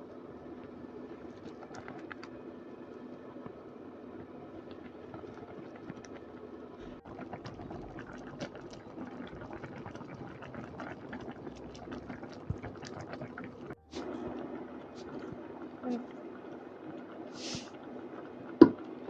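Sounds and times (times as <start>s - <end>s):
faint steady hum: 0.0s - 19.0s
jam bubbling in a pan: 0.0s - 19.0s.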